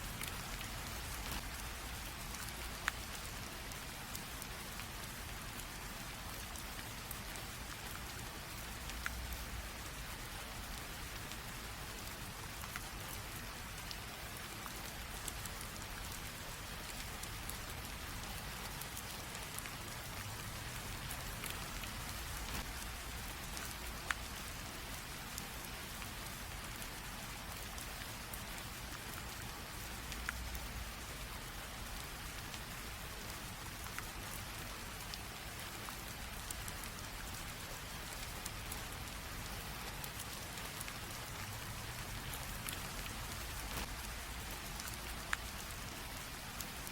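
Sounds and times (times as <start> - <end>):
light drizzle hissing: 0.0 - 46.9
raindrops ticking on a surface: 0.0 - 46.9.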